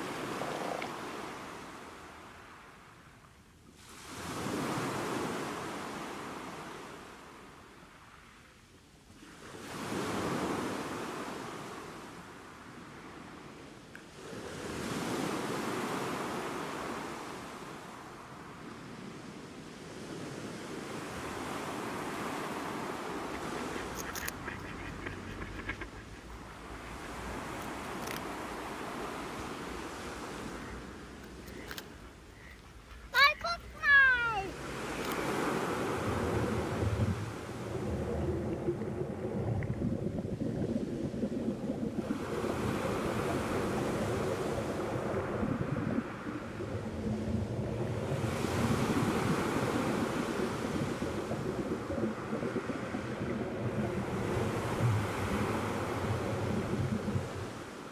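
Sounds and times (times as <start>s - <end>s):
low rumble of surf: 0.0s - 57.9s
sea waves washing in: 0.0s - 57.9s.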